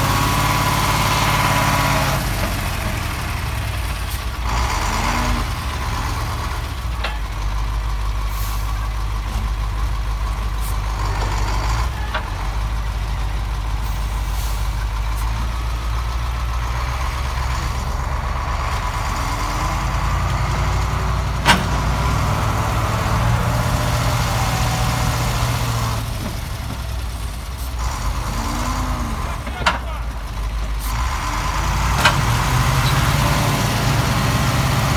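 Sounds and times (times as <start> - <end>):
heavy vehicle engine droning: 0.0 - 34.9.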